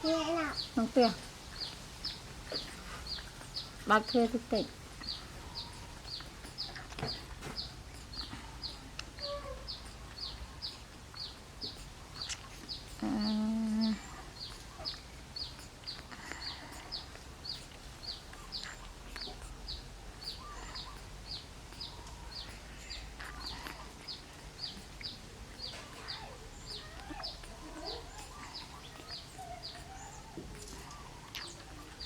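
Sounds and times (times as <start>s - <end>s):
bird chirping rapidly: 0.1s - 31.6s
faint lower bird calls: 4.5s - 32.0s.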